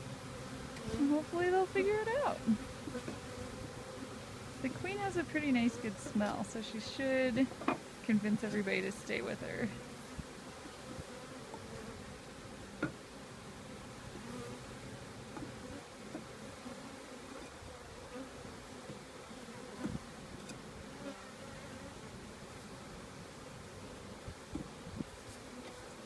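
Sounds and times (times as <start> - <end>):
bees buzzing: 0.0 - 26.0.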